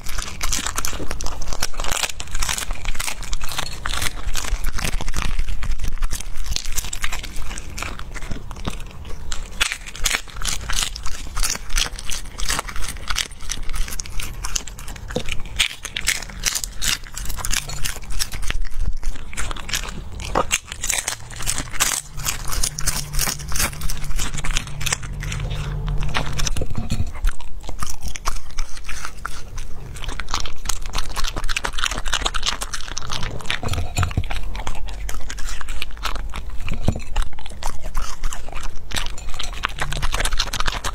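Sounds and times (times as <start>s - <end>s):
dog crunching prawn: 0.0s - 40.9s.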